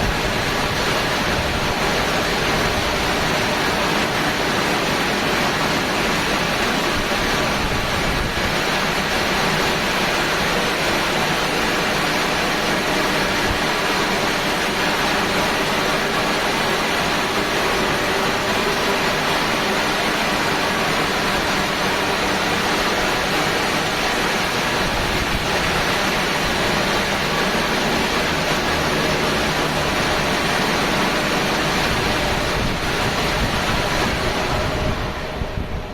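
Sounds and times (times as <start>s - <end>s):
high-pressure water spraying: 0.0s - 35.4s.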